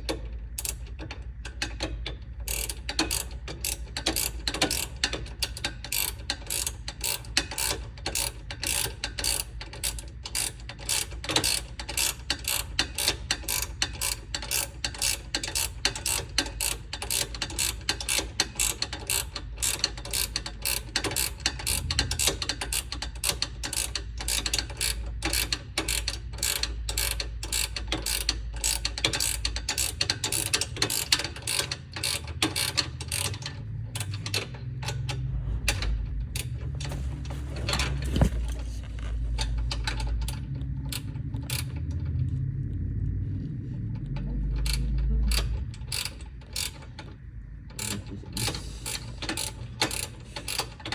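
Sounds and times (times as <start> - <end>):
steady low hum: 0.0 - 50.9
ratchet wrench clicking: 0.6 - 37.0, 39.0 - 41.8, 44.6 - 47.2, 47.8 - 50.9.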